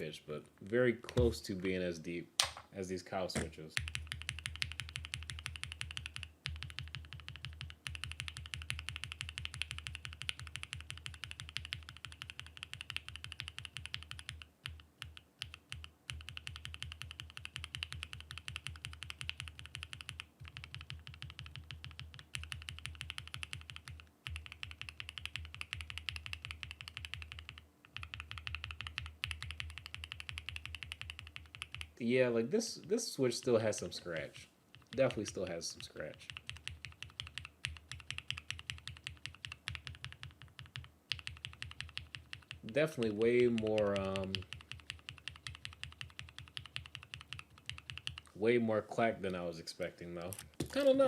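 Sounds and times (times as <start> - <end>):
fast mechanical keyboard typing: 3.4 - 31.9, 34.7 - 48.4.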